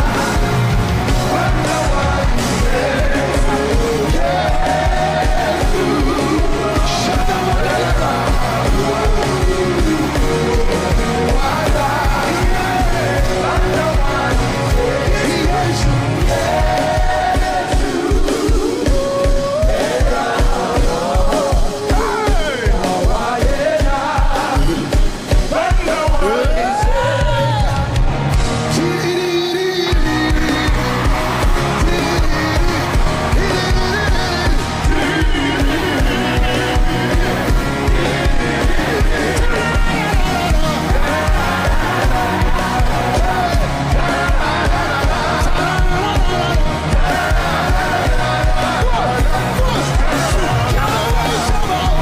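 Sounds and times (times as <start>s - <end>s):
voices singing: 0.0s - 28.0s, 28.7s - 52.0s
steady drum beat: 0.0s - 52.0s
worship band playing: 0.0s - 52.0s.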